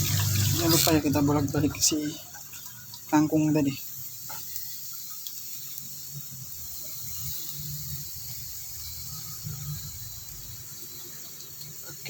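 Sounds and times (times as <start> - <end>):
vegetables sizzling in pan: 0.0 - 12.0.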